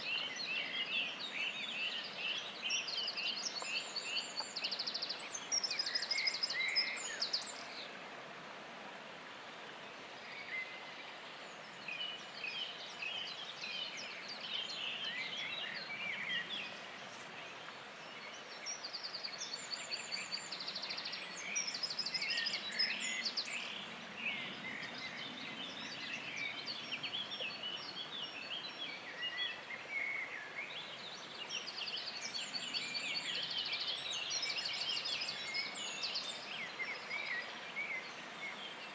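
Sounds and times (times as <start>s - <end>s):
songbirds singing: 0.0s - 8.3s, 9.3s - 38.9s
steady background hiss: 0.0s - 38.9s.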